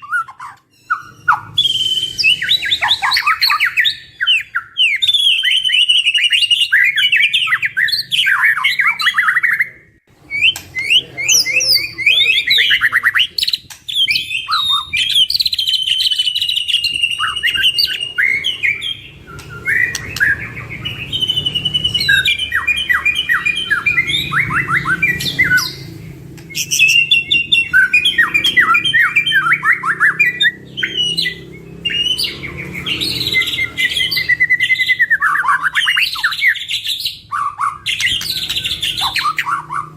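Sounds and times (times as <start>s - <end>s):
birds singing varied whistles and trills: 0.0s - 39.9s.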